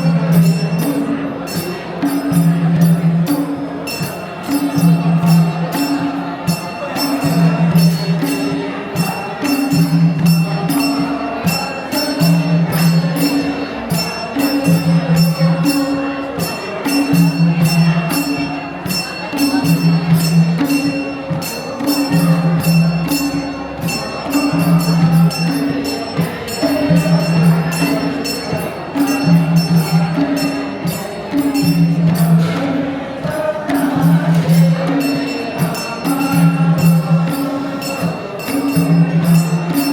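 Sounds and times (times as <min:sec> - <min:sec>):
drum beating: 0:00.0 - 0:39.9
jingling metal percussion: 0:00.0 - 0:39.9.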